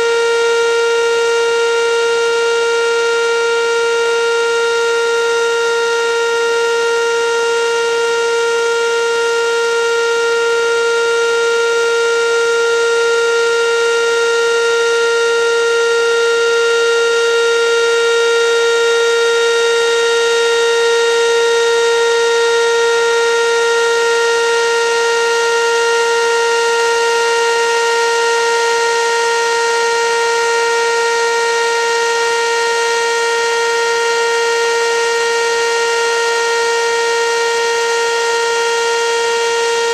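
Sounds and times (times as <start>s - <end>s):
warning sirens steady tone: 0.0s - 39.9s.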